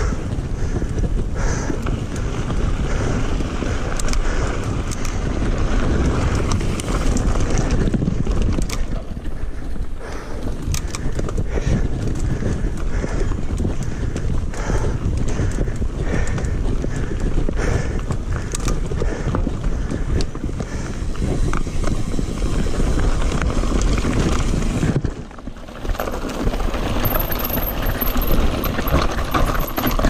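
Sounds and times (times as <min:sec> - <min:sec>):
bike clicks and rattles: 0:00.0 - 0:30.0
tyres rolling on dirt: 0:00.0 - 0:30.0
wind on microphone: 0:00.0 - 0:30.0.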